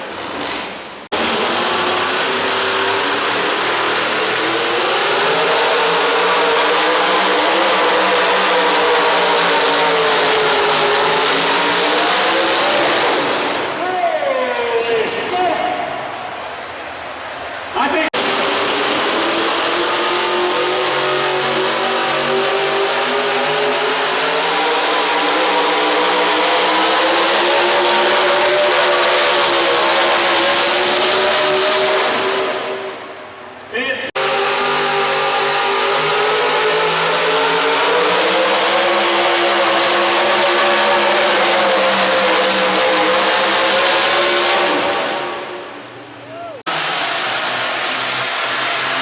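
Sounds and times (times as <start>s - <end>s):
loud pulling vehicle engine: 0.0s - 49.0s.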